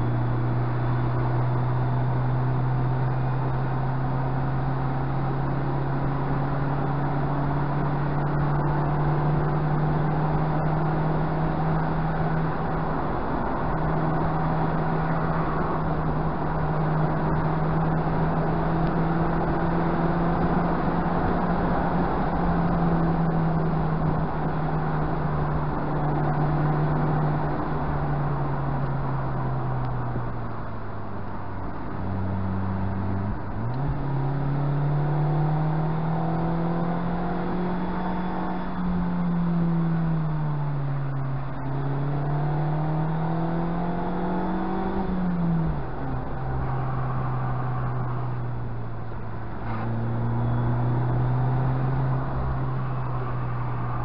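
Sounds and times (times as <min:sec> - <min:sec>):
car engine running: 0:00.0 - 0:54.0
tyre and road noise: 0:00.0 - 0:54.0.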